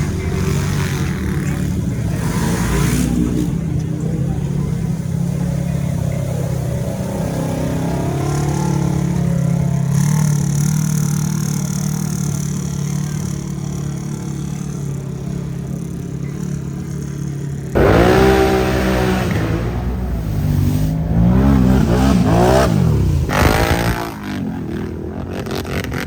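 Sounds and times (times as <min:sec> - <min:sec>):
atv engine running: 0:00.0 - 0:26.0
engine revving: 0:00.0 - 0:26.0.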